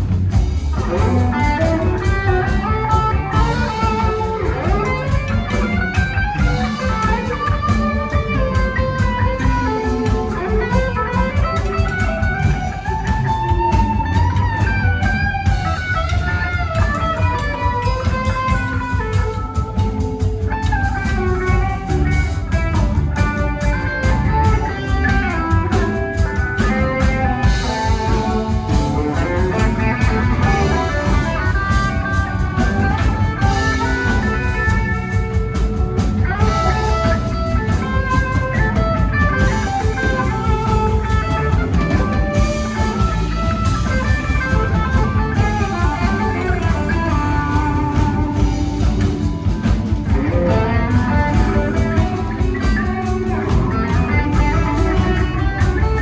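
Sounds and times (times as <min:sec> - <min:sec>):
bass guitar: 0:00.0 - 0:56.0
drum kit: 0:00.0 - 0:56.0
electric guitar melody: 0:00.0 - 0:56.0.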